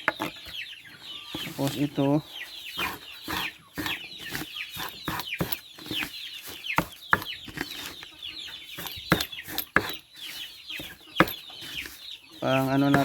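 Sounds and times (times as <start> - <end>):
chickens clucking and peeping: 0.0 - 13.0.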